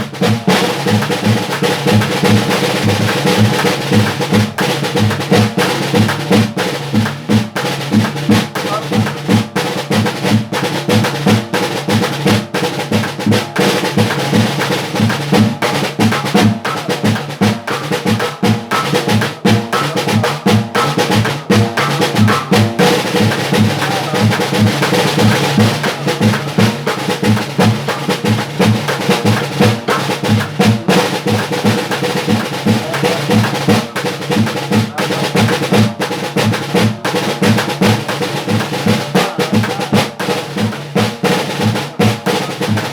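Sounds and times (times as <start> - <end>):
snare drum rolls: 0.0 - 42.9.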